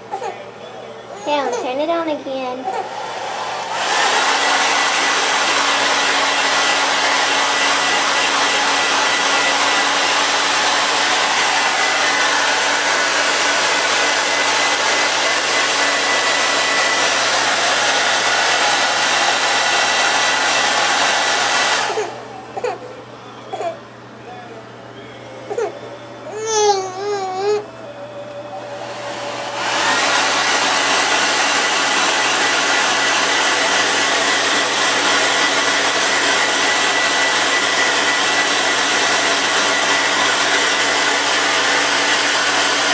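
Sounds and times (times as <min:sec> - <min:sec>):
hair dryer blowing: 0:01.3 - 0:22.7, 0:28.6 - 0:42.9.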